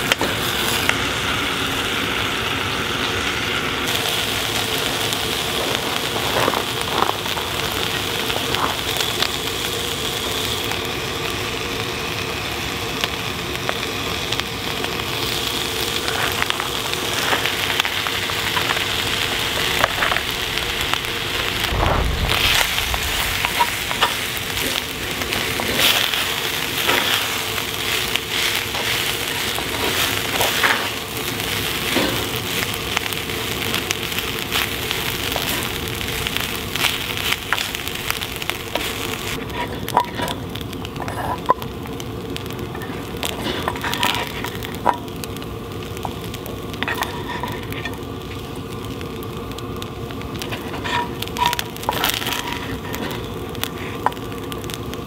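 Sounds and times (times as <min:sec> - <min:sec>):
fire crackles and pops: 0:00.0 - 0:55.0
food sizzling in a pan: 0:00.0 - 0:55.0.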